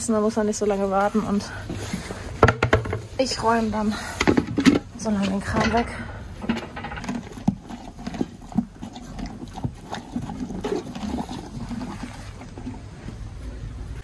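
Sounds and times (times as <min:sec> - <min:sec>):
horse chewing feed: 0:00.2 - 0:02.6, 0:03.4 - 0:14.0.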